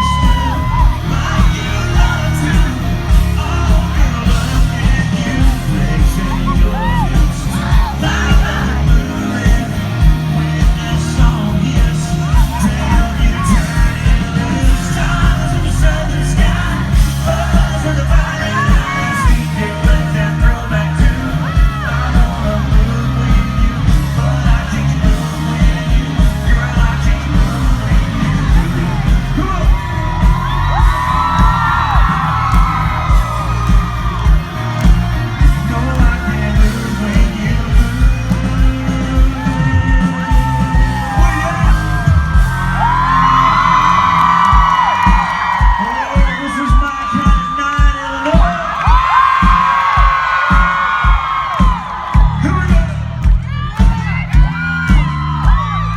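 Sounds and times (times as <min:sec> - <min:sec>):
live band music: 0:00.0 - 0:55.8
crowd yelling and whooping: 0:00.0 - 0:55.9
heavy drum beat: 0:00.0 - 0:55.9
lead singer singing: 0:00.0 - 0:55.9.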